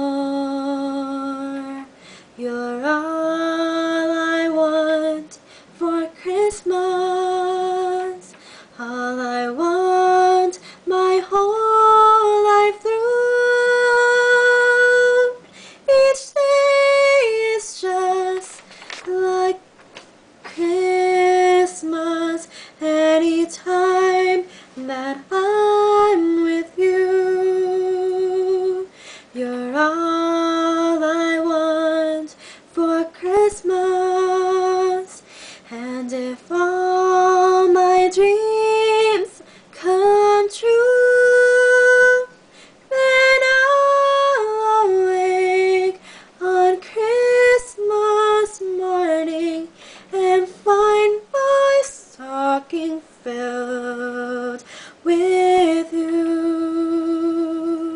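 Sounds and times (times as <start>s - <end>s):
woman singing a ballad: 0.0s - 57.9s.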